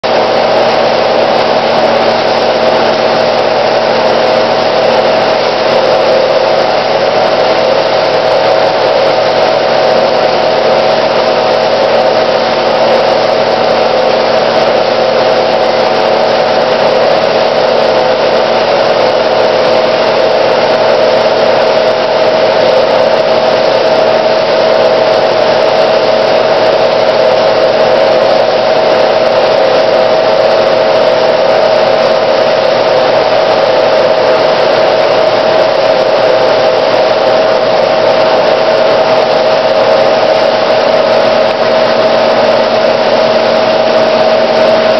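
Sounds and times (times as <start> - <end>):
impeller drives humming: 0.0 - 44.9.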